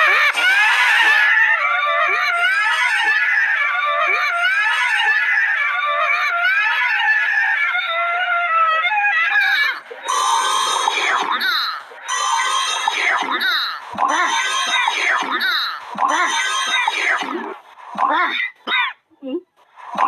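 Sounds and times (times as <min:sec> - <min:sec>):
high-pitched wailing voice: 0:00.0 - 0:17.2.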